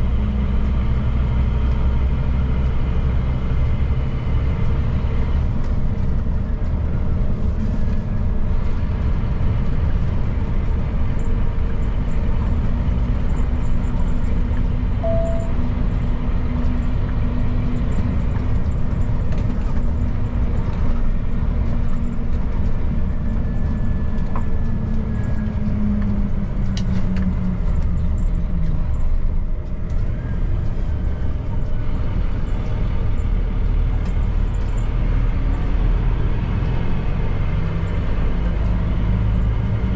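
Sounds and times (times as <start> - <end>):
road noise: 0.0 - 39.9
truck diesel engine running: 0.0 - 39.9.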